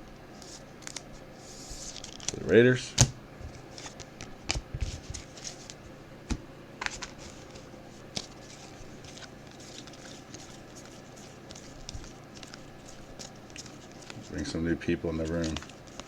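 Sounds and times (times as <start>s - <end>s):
cards and packs handled: 0.4s - 16.0s.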